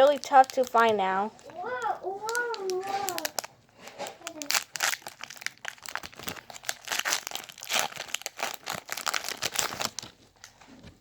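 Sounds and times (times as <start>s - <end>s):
foil wrapper crinkling and tearing: 0.0s - 10.5s.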